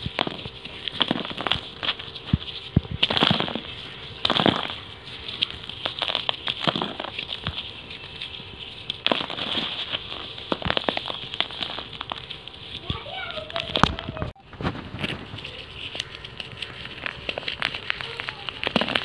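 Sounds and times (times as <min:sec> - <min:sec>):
small pieces falling: 0:00.0 - 0:14.3, 0:15.0 - 0:19.0
dry clay balls crunching: 0:00.0 - 0:19.0.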